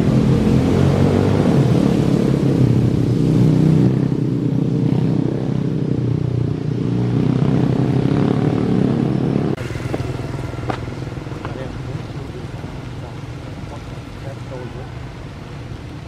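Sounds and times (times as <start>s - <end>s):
engine with pulsing drone: 0.0s - 16.0s.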